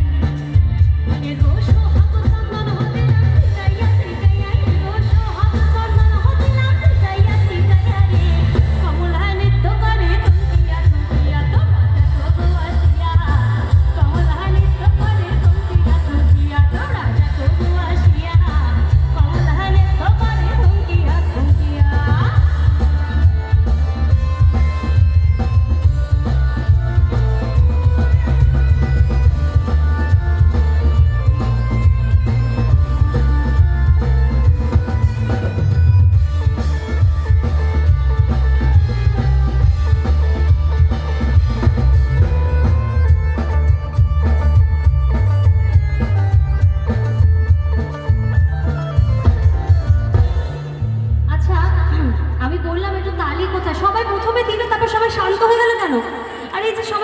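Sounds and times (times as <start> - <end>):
instrumental music with booming bass: 0.0 - 54.0
pop song through sound system: 0.0 - 57.0.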